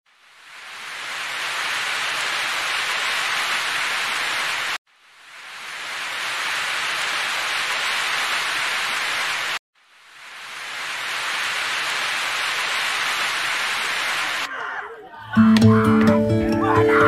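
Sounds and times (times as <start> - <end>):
steady static hiss: 0.1 - 14.5.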